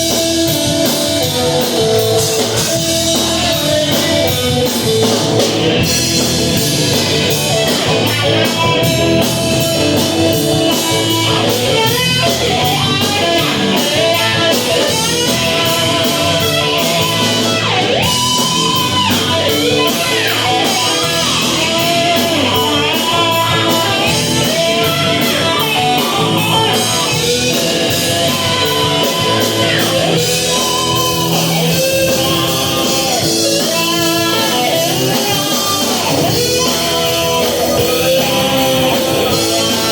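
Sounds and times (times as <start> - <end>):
electric guitar lead: 0.0 - 39.9
rock music: 0.0 - 39.9.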